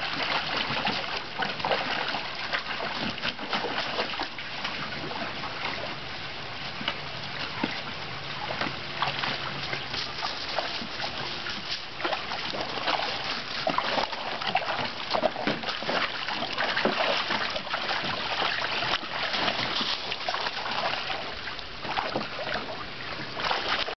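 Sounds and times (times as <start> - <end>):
dogs splashing in pool water: 0.0 - 24.0.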